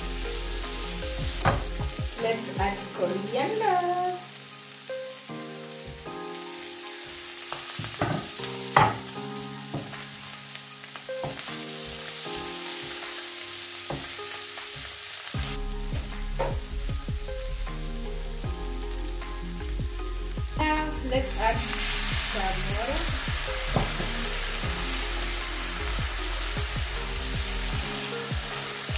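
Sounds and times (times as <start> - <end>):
food sizzling in a frying pan: 0.0 - 28.9.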